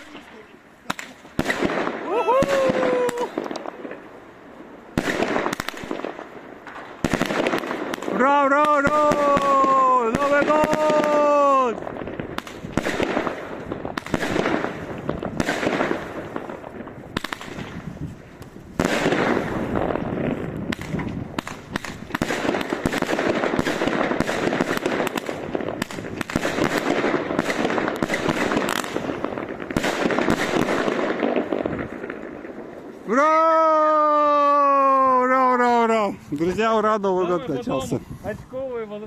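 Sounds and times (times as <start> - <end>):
fireworks cracking and banging: 0.0 - 39.0.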